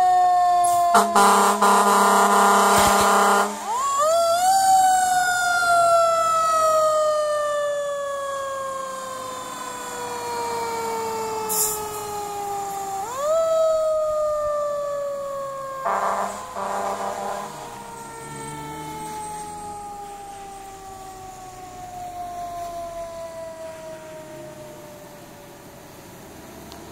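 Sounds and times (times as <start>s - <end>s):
mechanical siren wailing: 0.0s - 25.9s.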